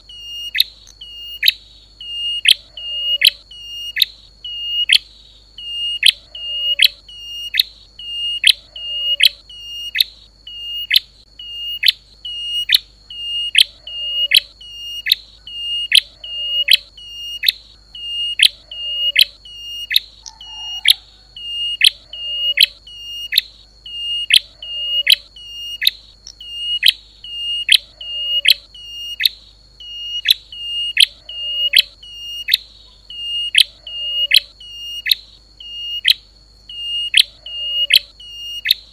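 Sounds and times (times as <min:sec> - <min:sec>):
faint lower chirps: 0:00.0 - 0:38.9
faint steady high tone: 0:00.0 - 0:38.9
songbird sharp high call: 0:05.6 - 0:38.9.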